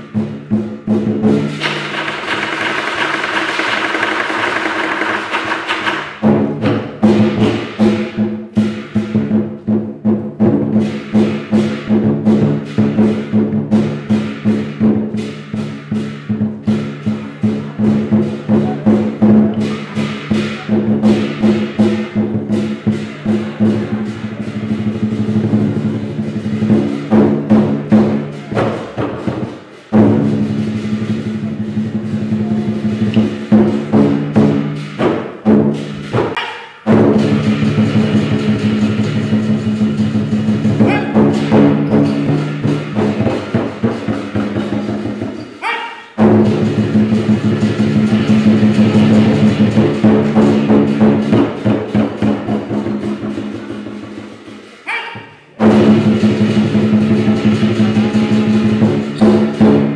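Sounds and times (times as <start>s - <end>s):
cymbals crashing: 0.0s - 59.9s
drum strikes: 0.0s - 59.9s.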